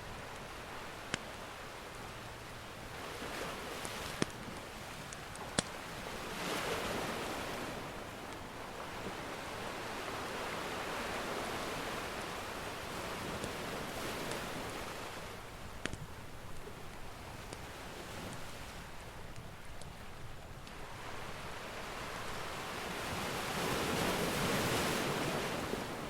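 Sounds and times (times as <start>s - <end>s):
ocean surf washing: 0.0s - 26.0s.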